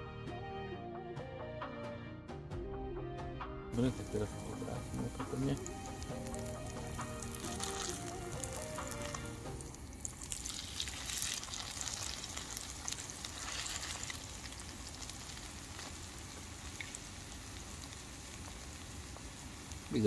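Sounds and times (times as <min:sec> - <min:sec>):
pancake sizzling in a pan: 0:03.8 - 0:20.0.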